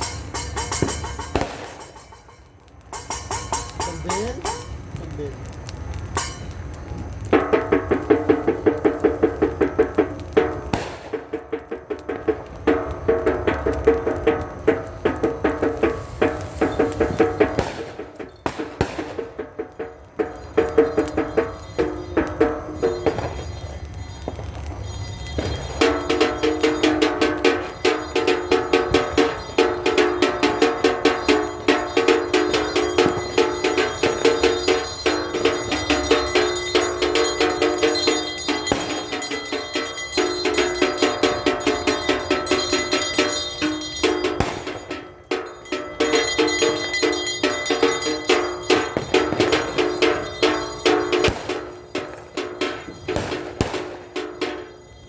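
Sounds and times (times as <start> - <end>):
rapid ringing percussive banging: 0.0 - 5.0, 6.0 - 55.0.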